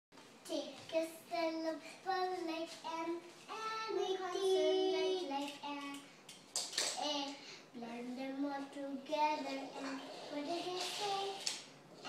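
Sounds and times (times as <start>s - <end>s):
small child singing: 0.4s - 6.1s, 7.0s - 11.7s.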